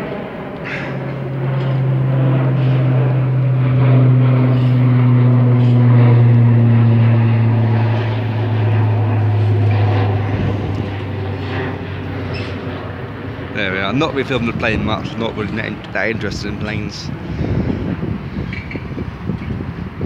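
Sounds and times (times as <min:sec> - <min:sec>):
airliner engine drone overhead: 0:00.0 - 0:20.0.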